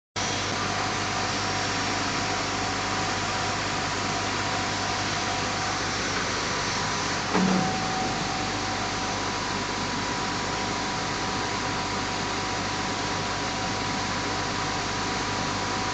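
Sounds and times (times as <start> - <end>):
machinery hum: 0.2 - 15.9.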